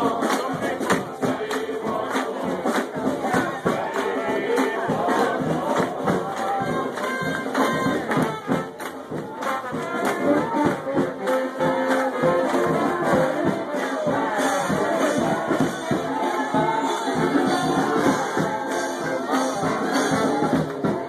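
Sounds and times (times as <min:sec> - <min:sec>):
drums: 0:00.0 - 0:21.0
trombone: 0:00.0 - 0:21.0
trumpet: 0:00.0 - 0:21.0.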